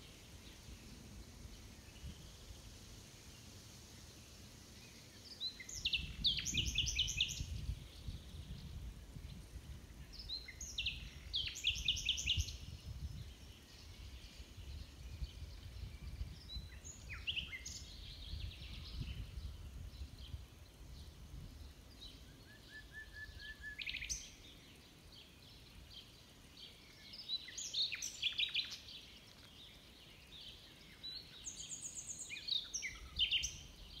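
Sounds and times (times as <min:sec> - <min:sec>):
songbirds singing trilled notes: 0:00.0 - 0:34.0.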